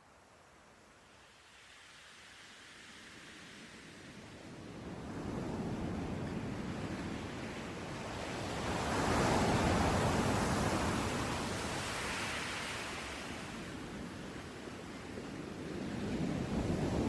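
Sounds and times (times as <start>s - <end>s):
surf washing ashore: 1.1s - 17.0s.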